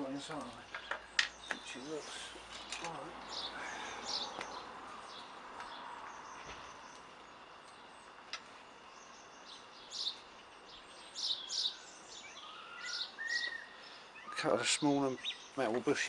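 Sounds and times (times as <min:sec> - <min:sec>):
birds chirping: 0:00.0 - 0:16.0
faint outdoor hiss: 0:00.0 - 0:16.0.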